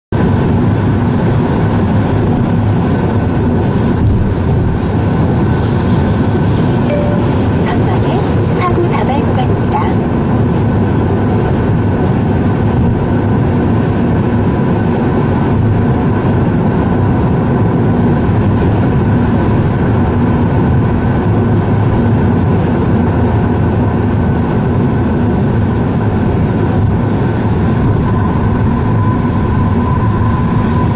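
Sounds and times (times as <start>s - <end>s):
car engine from inside cabin: 0.2s - 30.9s
tyre road noise: 0.2s - 30.9s.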